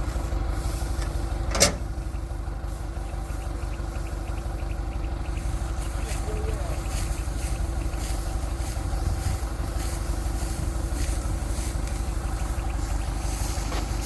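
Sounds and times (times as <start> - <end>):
combine harvester engine droning: 0.0 - 14.0.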